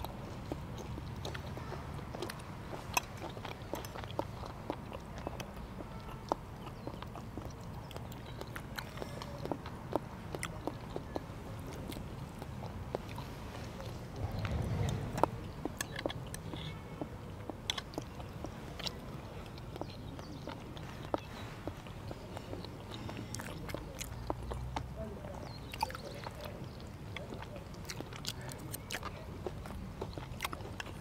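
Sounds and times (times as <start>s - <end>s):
chewing: 0.0s - 31.0s.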